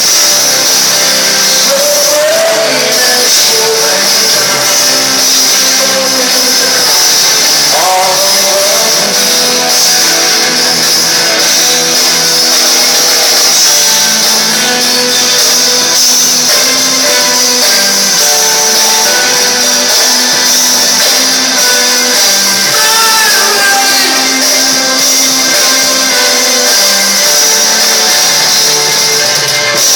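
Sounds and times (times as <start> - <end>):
electric guitars: 0.0 - 29.9
live rock band playing: 0.0 - 29.9.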